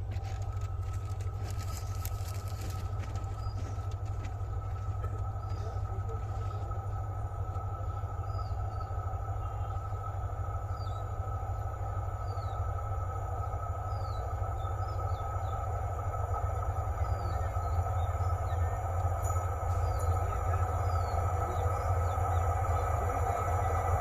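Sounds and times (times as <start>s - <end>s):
train rumbling: 0.0s - 24.0s
bird chirping: 1.4s - 7.0s, 7.7s - 11.2s, 12.1s - 12.8s, 13.8s - 24.0s.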